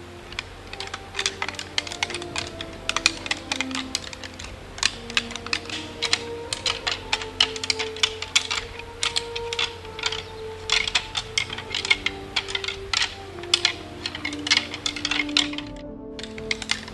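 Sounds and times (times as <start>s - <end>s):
antlers clashing and rattling: 0.0s - 16.9s
soft held musical tones: 0.0s - 16.9s.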